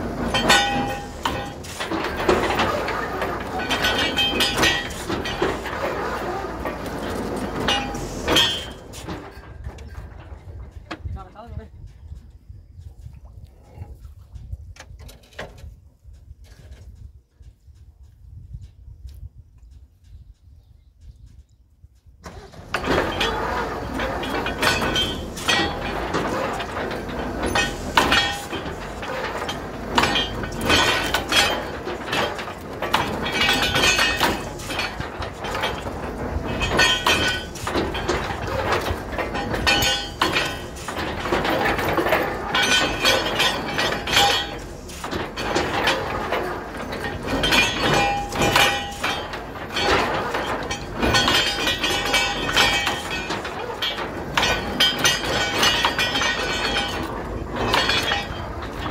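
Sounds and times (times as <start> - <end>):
drilling rig mechanical din: 0.0 - 10.6, 22.2 - 58.9
metallic clanks and knocks: 0.0 - 11.2, 22.2 - 58.9.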